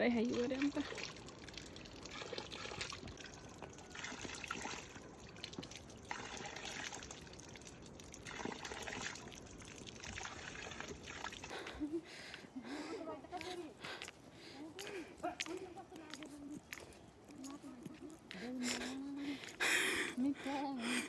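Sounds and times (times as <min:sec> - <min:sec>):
water trickling and splashing: 0:00.0 - 0:21.0.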